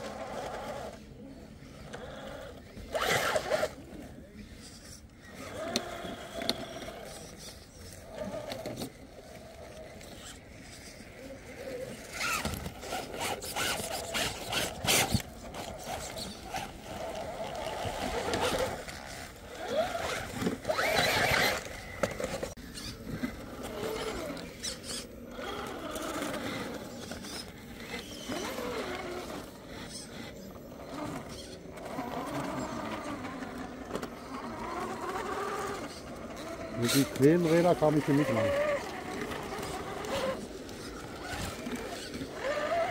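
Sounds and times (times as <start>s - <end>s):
electric motor whining: 5.2s - 42.9s.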